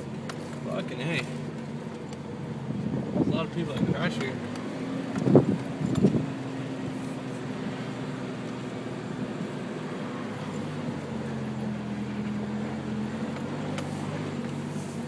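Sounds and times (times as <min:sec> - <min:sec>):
car engine running at low speed: 0:00.0 - 0:15.0
tyre and cabin noise: 0:00.0 - 0:15.0.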